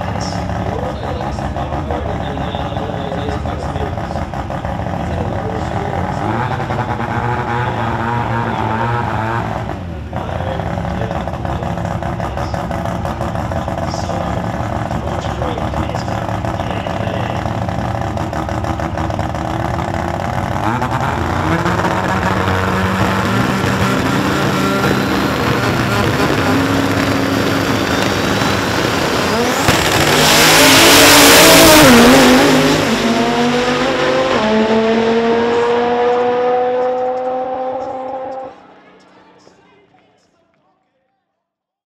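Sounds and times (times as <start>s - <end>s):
cars launching at full throttle: 0.0s - 39.0s
drag car engines idling and revving: 0.0s - 39.5s.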